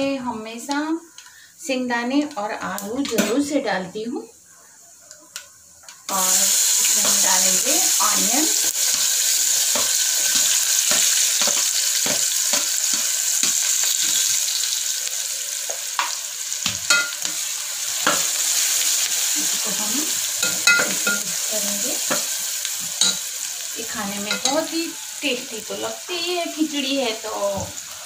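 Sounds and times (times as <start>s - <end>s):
onions sizzling in hot oil: 0.3s - 28.0s.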